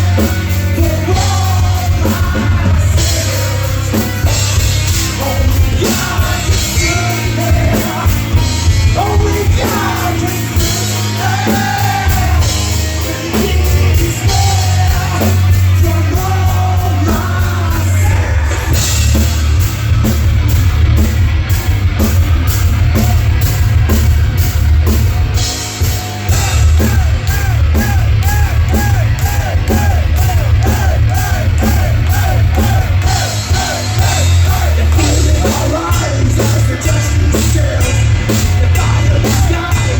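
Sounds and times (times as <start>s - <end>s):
distorted guitar: 0.0s - 39.9s
drums: 0.0s - 39.9s
heavy bass: 0.0s - 39.9s
live rock band playing: 0.0s - 39.9s.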